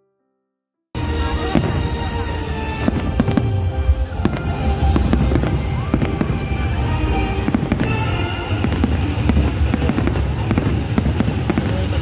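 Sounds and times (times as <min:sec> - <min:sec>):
fireworks bangs: 0:01.0 - 0:12.0
low rumble: 0:01.0 - 0:12.0
music playing: 0:01.0 - 0:12.0.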